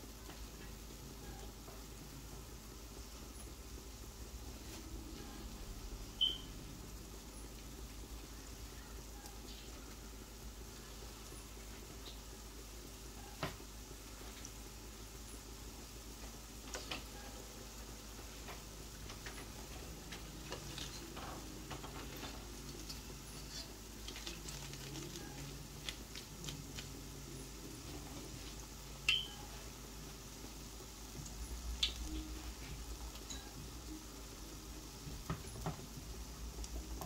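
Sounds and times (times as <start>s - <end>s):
fritters sizzling in hot oil: 0.0s - 37.0s.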